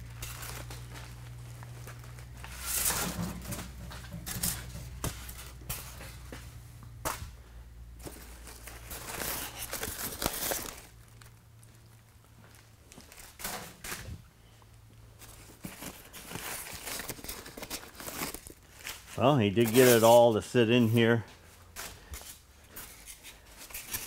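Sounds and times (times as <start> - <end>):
packing paper rustling: 0.0 - 6.3, 8.0 - 14.2, 15.2 - 21.2, 21.8 - 24.0.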